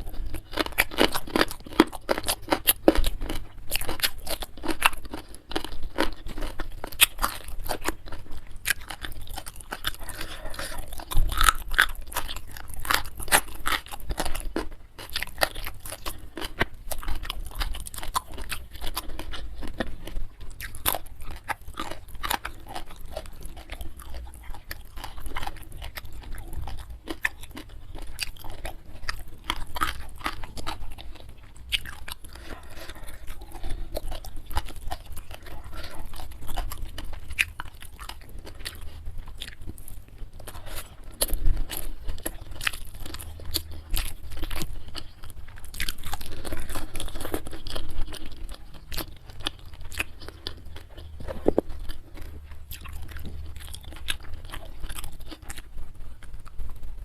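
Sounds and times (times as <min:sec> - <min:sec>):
crunchy food chewing: 0:00.0 - 0:57.0.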